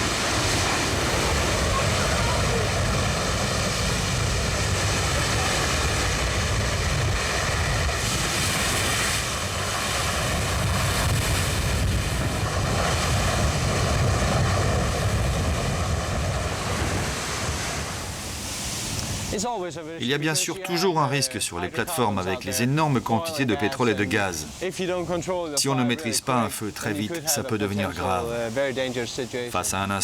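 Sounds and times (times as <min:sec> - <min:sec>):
sea: 0:00.0 - 0:30.0
wind: 0:00.0 - 0:30.0.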